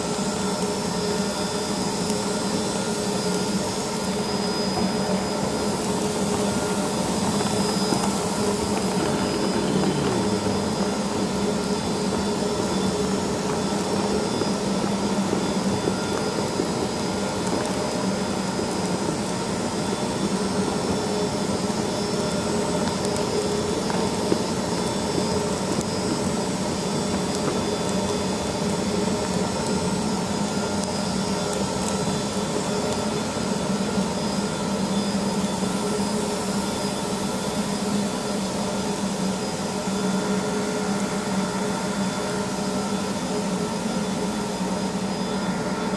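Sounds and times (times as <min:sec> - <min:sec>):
concrete floor grinder whining: 0:00.0 - 0:45.9
rushing noise of dust extraction: 0:00.0 - 0:45.9.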